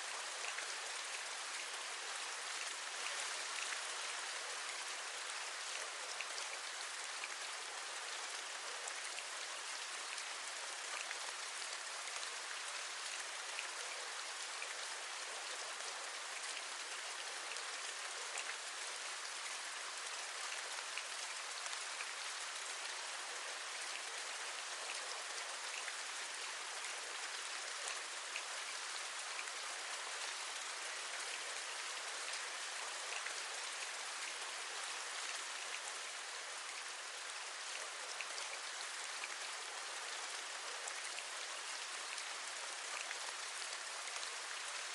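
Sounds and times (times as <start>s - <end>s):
steady rain with drop taps: 0.0s - 44.9s.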